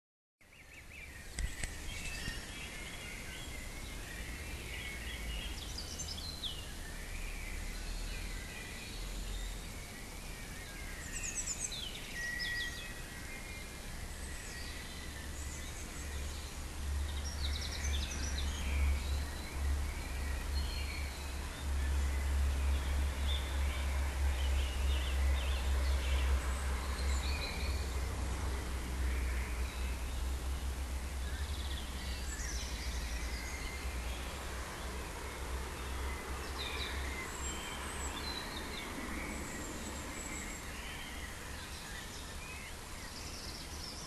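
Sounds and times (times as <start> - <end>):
birds chirping and trilling: 0.4 - 44.0.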